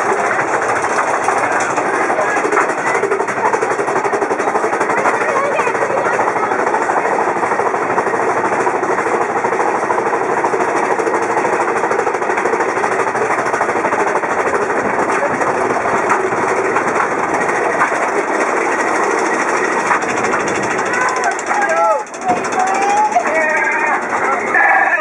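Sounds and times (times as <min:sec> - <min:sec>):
sharp clacks: 0:00.0 - 0:24.5
roller coaster rattling on track: 0:00.0 - 0:25.0.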